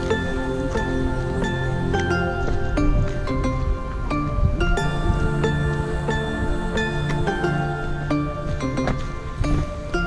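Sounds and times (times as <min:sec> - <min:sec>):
slow instrumental melody: 0:00.0 - 0:10.0.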